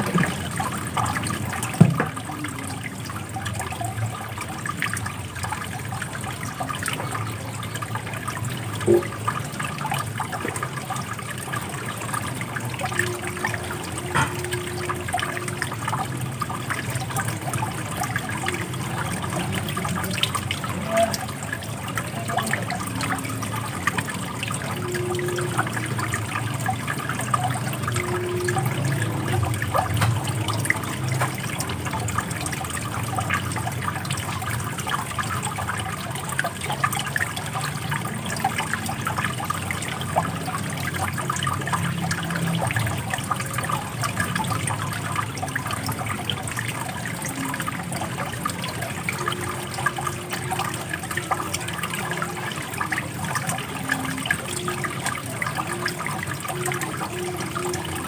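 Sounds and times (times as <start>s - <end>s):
running water splashing: 0.0s - 58.0s.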